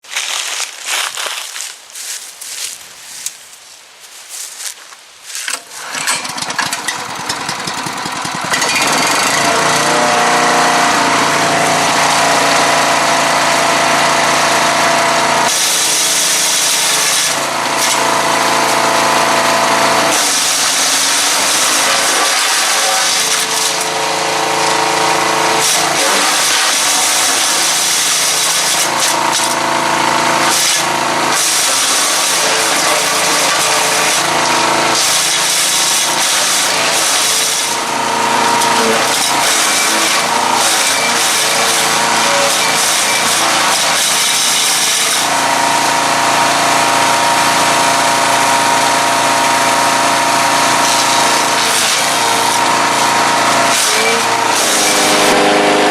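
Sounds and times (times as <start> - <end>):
wood chipper engine running: 0.0 - 3.4, 4.1 - 55.9
wood being shredded: 0.0 - 55.9.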